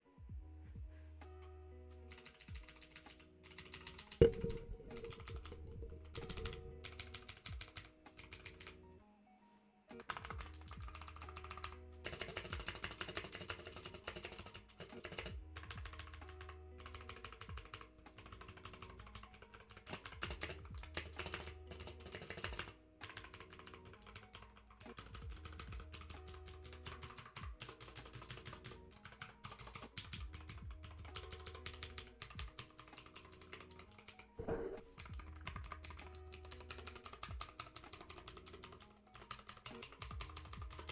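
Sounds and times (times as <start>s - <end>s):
mechanical keyboard clicks: 2.1s - 8.8s, 10.0s - 40.9s.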